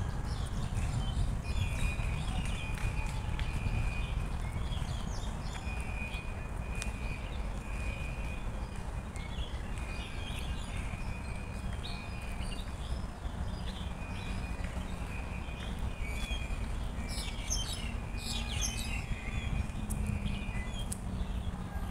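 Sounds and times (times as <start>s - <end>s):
birds chirping: 0.0s - 21.9s
footsteps on pavement: 0.0s - 21.9s
steady low rumble: 0.0s - 21.9s.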